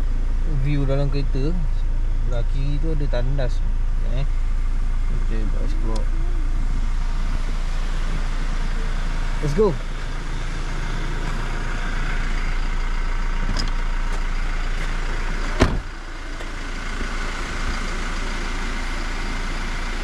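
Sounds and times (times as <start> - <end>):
car engine hum from inside cabin: 0.0 - 20.0.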